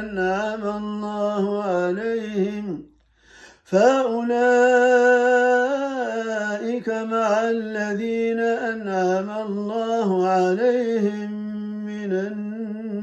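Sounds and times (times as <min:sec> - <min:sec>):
man reciting melodically: 0:00.0 - 0:03.0, 0:03.6 - 0:13.0.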